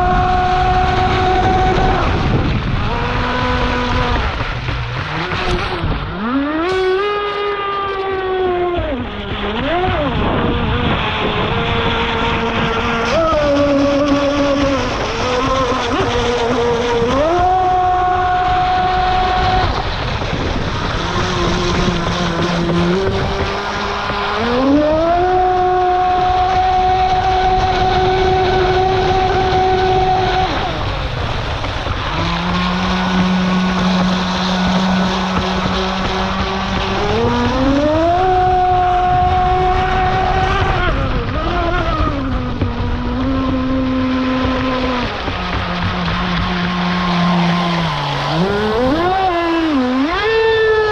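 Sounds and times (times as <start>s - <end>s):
model boat motor whining: 0.0s - 50.9s
water rushing and splashing: 0.0s - 50.9s.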